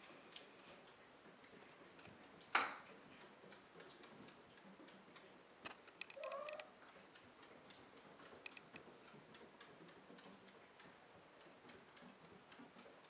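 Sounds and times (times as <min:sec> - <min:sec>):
cat exercise wheel clicking: 0:00.0 - 0:13.0.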